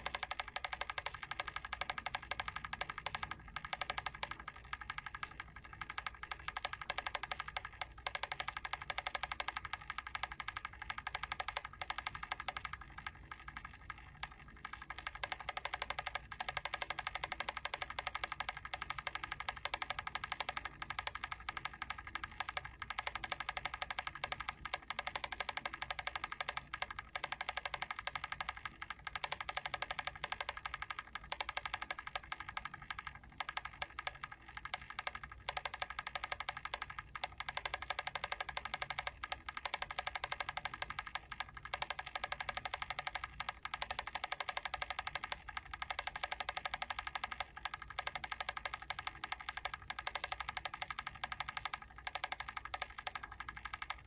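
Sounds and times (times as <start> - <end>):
timer mechanism ticking: 0.0 - 54.0.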